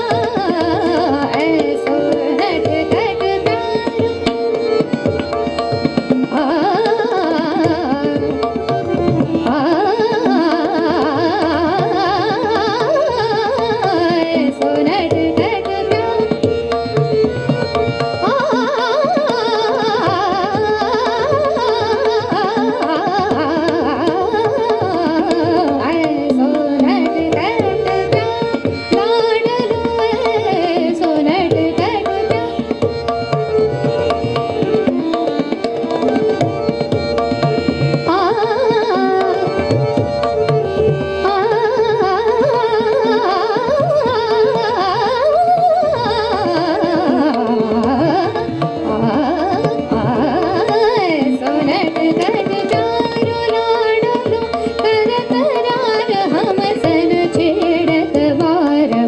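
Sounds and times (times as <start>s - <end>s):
woman singing: 0.0s - 4.9s, 5.7s - 17.0s, 17.7s - 32.8s, 37.9s - 40.2s, 41.2s - 59.0s
harmonium: 0.0s - 59.0s
tabla: 0.0s - 59.0s.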